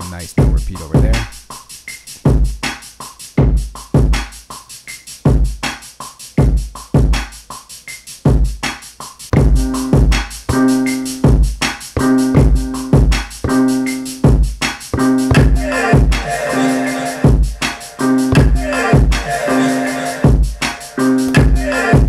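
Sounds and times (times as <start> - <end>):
fast hi-hat pattern: 0.0 - 22.0
hip-hop drum beat: 0.0 - 22.0.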